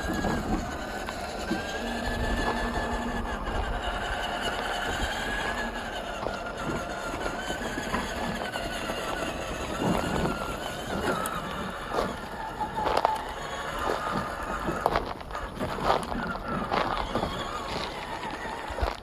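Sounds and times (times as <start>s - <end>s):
toy car motor whining: 0.0s - 19.0s.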